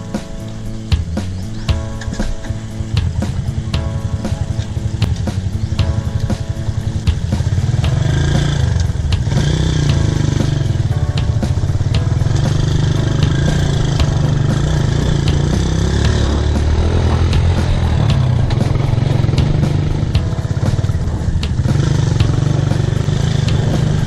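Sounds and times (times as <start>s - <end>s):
bike clattering on rough track: 0.0s - 24.0s
motorcycle engine under load: 0.0s - 24.0s.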